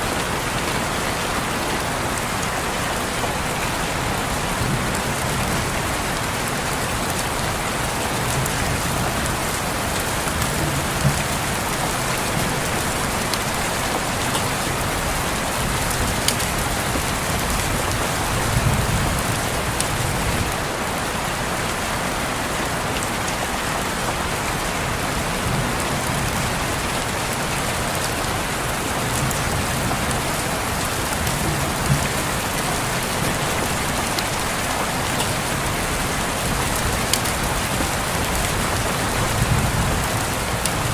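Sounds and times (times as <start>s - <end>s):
rain pattering on a window: 0.0s - 40.9s.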